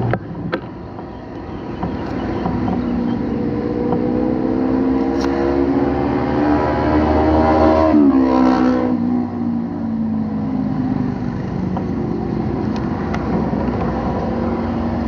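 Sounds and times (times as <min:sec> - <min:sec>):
vehicle engine running: 0:00.0 - 0:06.0, 0:09.0 - 0:15.0
road noise: 0:00.0 - 0:15.0.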